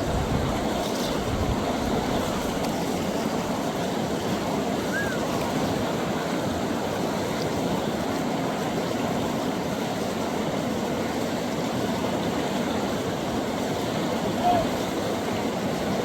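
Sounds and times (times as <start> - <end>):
river water rushing over rapids: 0.0 - 16.0.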